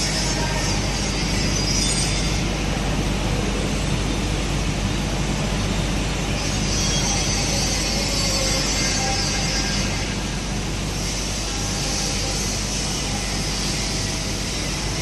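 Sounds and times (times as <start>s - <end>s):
vibrating machine hum and rattle: 0.0s - 15.0s.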